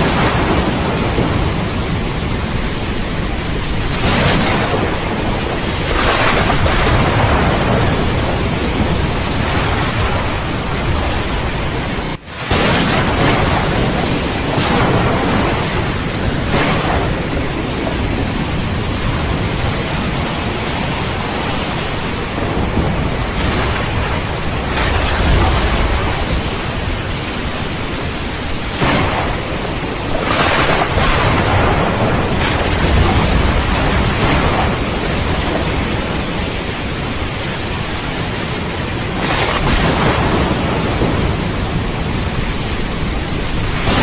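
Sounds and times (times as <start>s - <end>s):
heavy rain: 0.0s - 44.0s
thunder: 0.0s - 44.0s.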